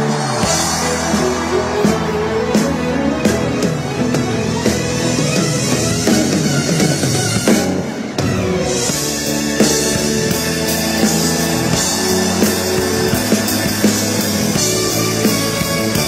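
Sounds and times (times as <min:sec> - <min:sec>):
music with drums and guitar: 0:00.0 - 0:16.0.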